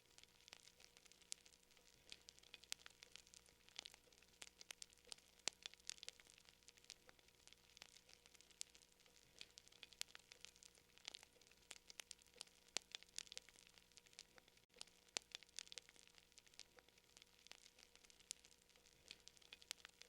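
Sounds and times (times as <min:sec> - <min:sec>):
faint fire crackling: 0:00.0 - 0:20.0.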